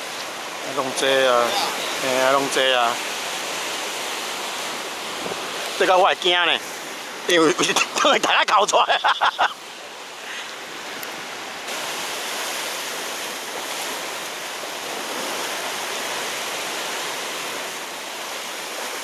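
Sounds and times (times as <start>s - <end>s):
sea waves on rocky shore: 0.0s - 19.0s.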